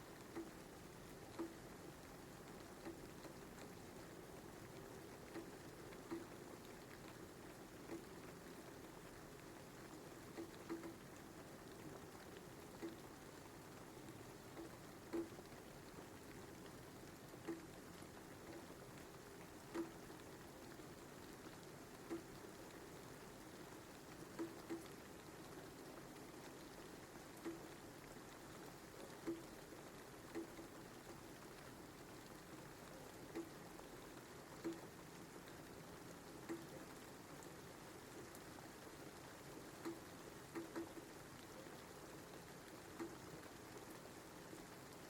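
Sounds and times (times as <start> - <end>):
soft steady rain: 0.0 - 45.0.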